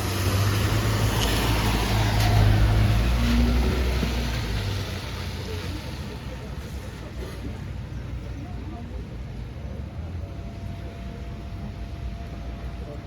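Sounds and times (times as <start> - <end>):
tram engine rumble passing: 0.0 - 13.0.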